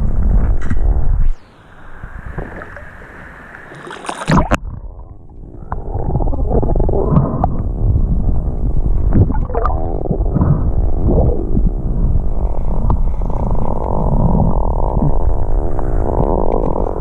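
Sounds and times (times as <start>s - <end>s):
muffled underwater water noise: 0.1s - 17.0s.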